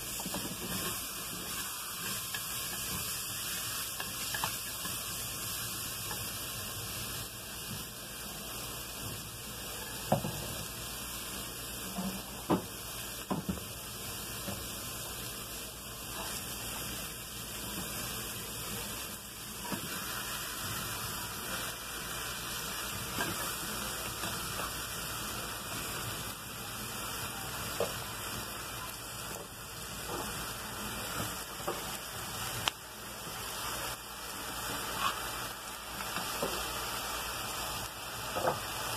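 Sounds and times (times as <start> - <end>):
food sizzling in a pot: 0.0 - 38.9.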